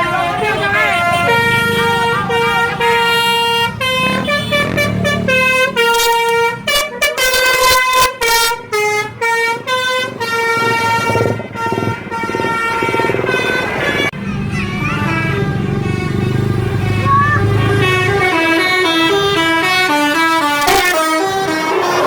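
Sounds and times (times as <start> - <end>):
multi-tone bus horn tune: 0.0 - 22.0.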